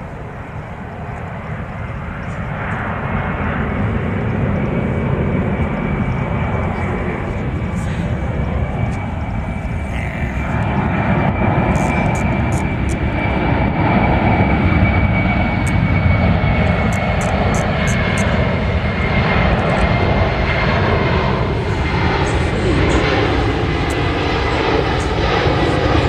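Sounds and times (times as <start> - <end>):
airplane engines rumbling: 0.0 - 26.0
high engine whine: 0.0 - 26.0.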